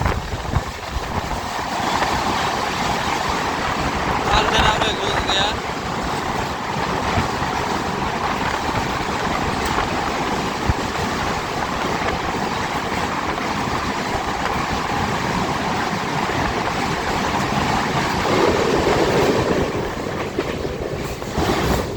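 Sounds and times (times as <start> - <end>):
train rumbling through a tunnel: 0.0 - 21.9.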